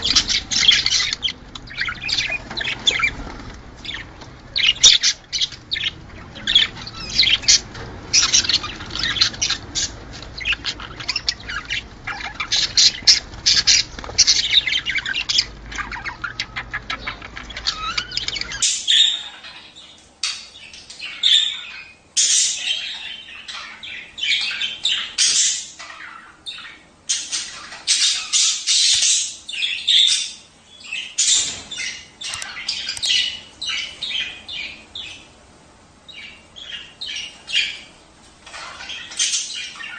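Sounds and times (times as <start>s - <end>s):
budgerigars chattering: 0.0s - 35.4s, 36.1s - 39.9s
low background hum: 0.0s - 39.9s.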